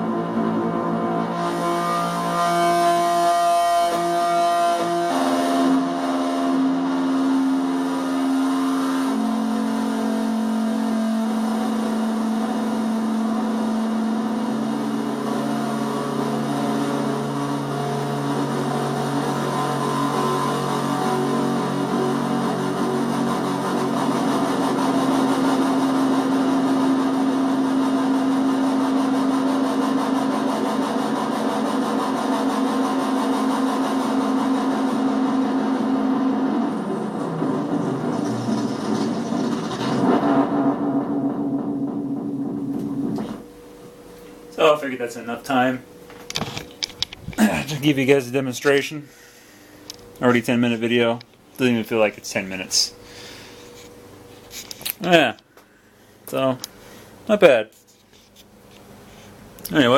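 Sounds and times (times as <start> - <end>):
buzzing droning synth tones: 0.0 - 57.3.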